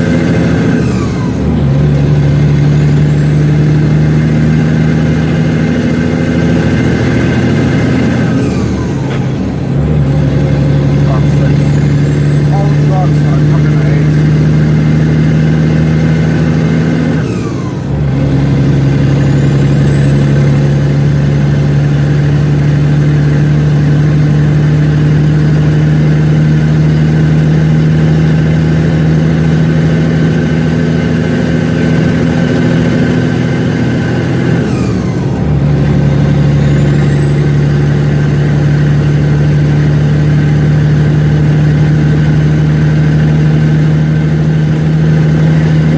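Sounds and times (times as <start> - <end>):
truck diesel engine pulling: 0.0 - 45.9.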